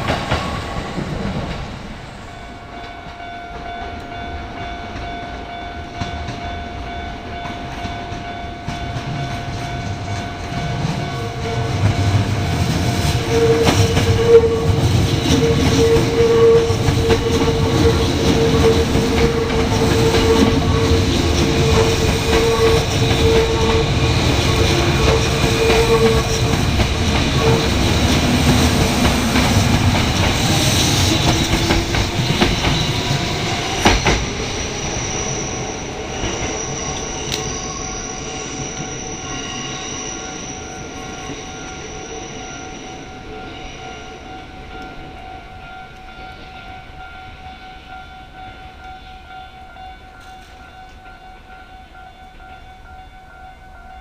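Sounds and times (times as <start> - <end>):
train wheels rumbling on rails: 0.0 - 52.9
crossing warning bell tones: 0.0 - 54.0.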